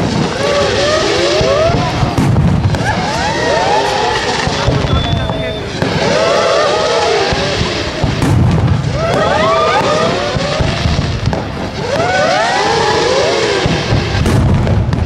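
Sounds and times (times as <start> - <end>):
rumble of fireworks launches and bursts: 0.0 - 15.0
sharp firework bangs: 0.0 - 15.0
whistling fireworks: 0.0 - 15.0.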